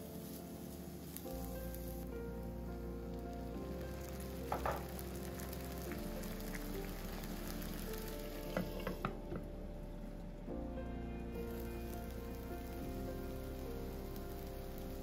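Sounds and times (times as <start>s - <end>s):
food sizzling in a pan: 0.0s - 9.4s, 11.4s - 15.0s
soft background music chords: 0.0s - 15.0s.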